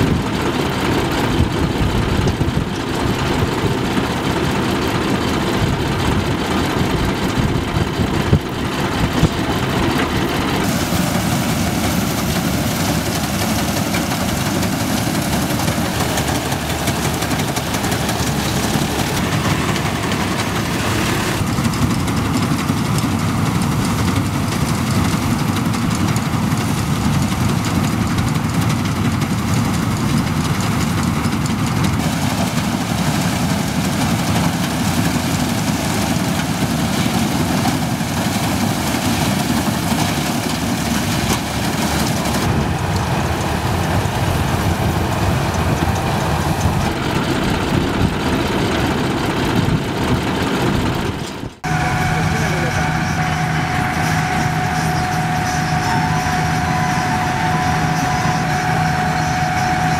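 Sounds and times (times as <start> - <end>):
diesel tractor engine: 0.0 - 59.9
threshing machinery running: 0.0 - 59.9.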